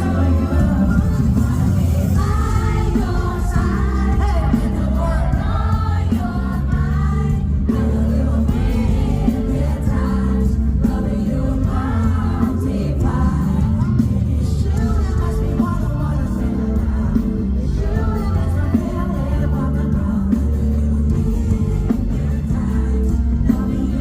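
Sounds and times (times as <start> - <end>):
man singing live: 0.0 - 5.6, 7.7 - 24.0
backing track with heavy bass: 0.0 - 24.0.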